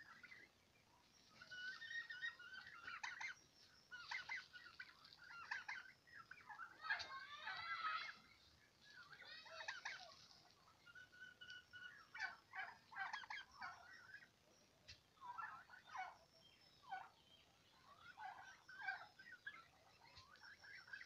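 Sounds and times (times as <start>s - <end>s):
turkeys clucking and chirping: 0.0s - 21.0s.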